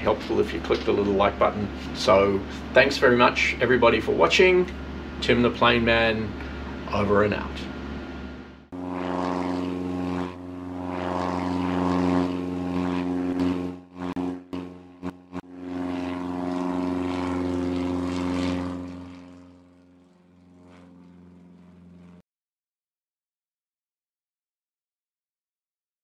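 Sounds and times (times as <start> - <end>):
propeller aircraft engine droning: 0.0 - 22.2.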